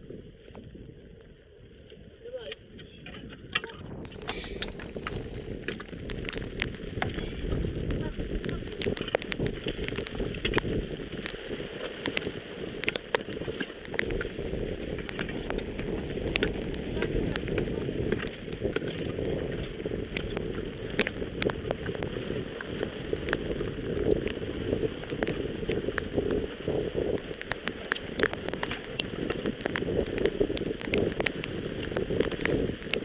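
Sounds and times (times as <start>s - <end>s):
raindrops ticking on surface: 3.6s - 33.0s
rain falling: 4.0s - 33.0s.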